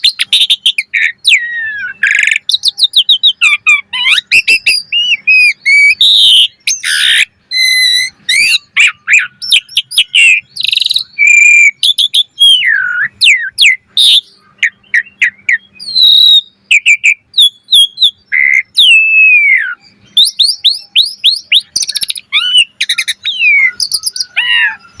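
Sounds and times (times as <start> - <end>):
bird singing varied song: 0.0 - 25.0.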